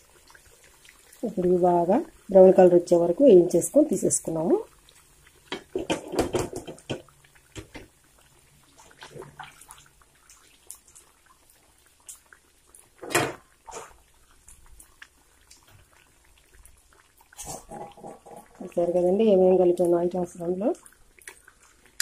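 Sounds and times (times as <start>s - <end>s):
oil sizzling with pops: 0.0s - 22.0s.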